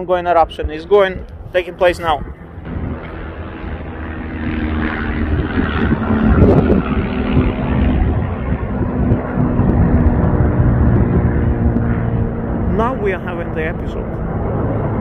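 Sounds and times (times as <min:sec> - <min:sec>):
lava fountain erupting with deep hum: 0:02.6 - 0:15.0.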